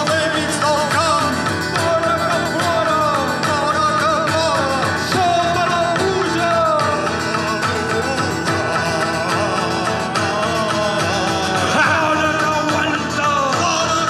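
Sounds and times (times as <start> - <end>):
guitar accompaniment: 0.0 - 14.0
person singing ornamented melody: 0.0 - 14.0.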